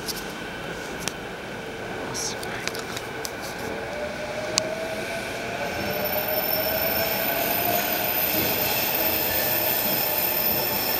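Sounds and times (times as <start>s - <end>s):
train passing on tracks: 0.0s - 10.9s.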